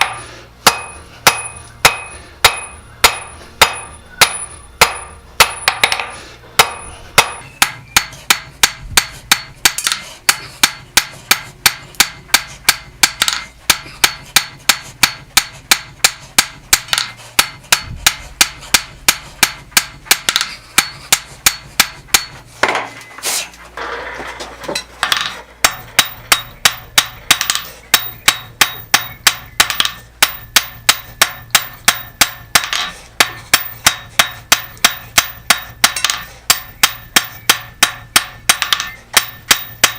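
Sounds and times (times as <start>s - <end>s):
hammer ringing on anvil: 0.0s - 17.8s, 18.7s - 22.4s, 25.1s - 39.9s.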